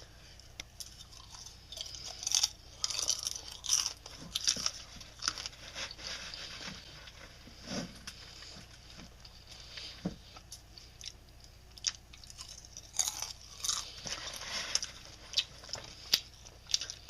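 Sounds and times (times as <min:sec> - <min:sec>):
popcorn crunching chewing: 0:00.4 - 0:06.6, 0:09.2 - 0:17.0.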